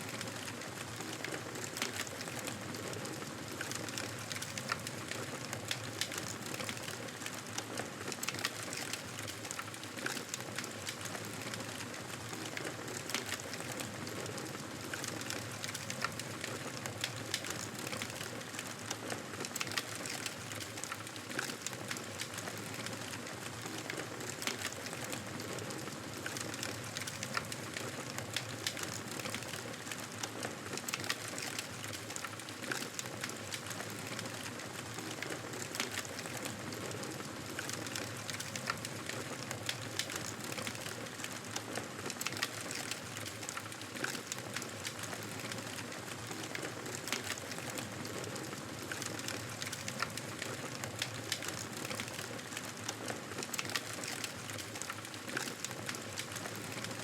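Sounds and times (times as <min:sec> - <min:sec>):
logs crackling and popping: 0:00.0 - 0:57.0.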